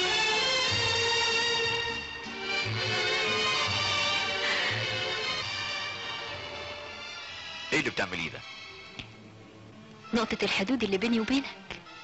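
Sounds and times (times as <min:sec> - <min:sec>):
film soundtrack music: 0:00.0 - 0:12.0.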